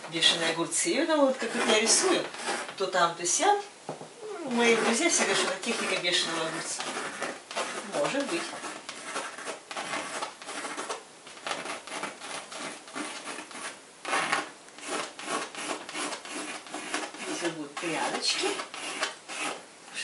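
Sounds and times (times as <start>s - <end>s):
pencil scratching on canvas: 0.2s - 2.9s, 4.5s - 19.6s.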